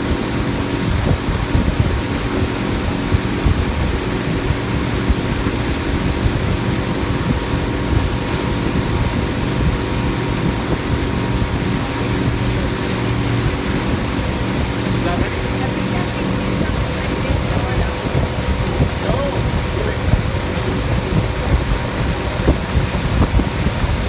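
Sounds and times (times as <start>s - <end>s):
outboard motor humming: 0.0s - 24.0s
rush of wind and water: 0.0s - 24.0s.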